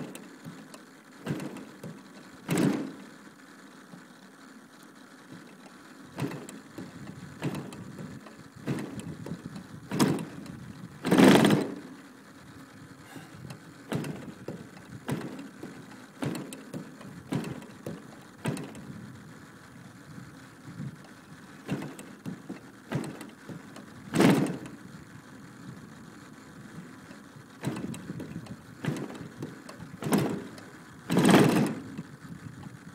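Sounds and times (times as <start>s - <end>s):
engine being turned over: 0.0s - 4.1s, 5.2s - 32.9s.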